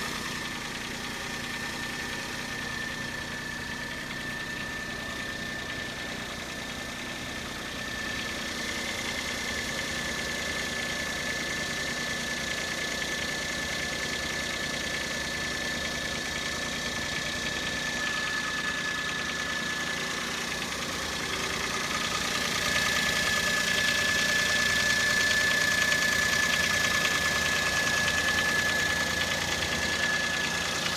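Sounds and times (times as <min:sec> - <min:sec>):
car engine rattling and whining: 0:00.0 - 0:30.9.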